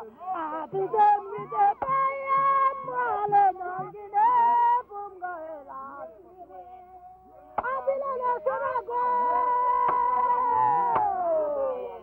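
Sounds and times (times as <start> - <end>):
people singing: 0.0 - 12.0.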